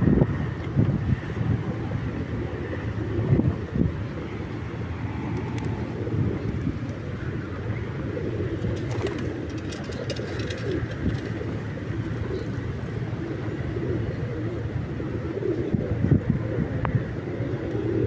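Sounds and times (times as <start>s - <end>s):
traffic hum: 0.0s - 18.0s
pigeons cooing: 1.2s - 18.0s.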